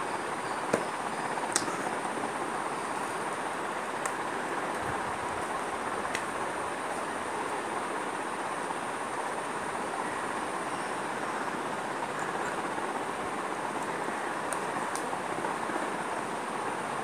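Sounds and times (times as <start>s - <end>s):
faint high-pitched whine: 0.0s - 17.0s
steady rushing noise: 0.0s - 17.0s.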